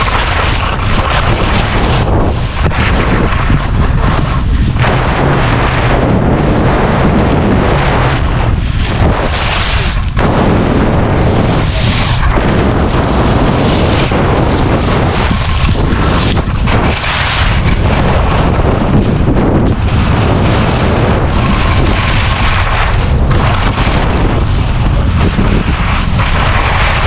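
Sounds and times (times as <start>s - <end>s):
skis scraping over snow: 0.0s - 27.0s
wind buffeting microphone: 0.0s - 27.0s.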